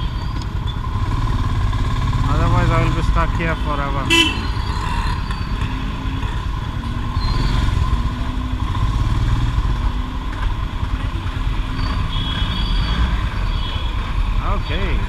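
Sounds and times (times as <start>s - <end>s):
motorcycle engine running: 0.0s - 15.0s
traffic noise: 0.0s - 15.0s.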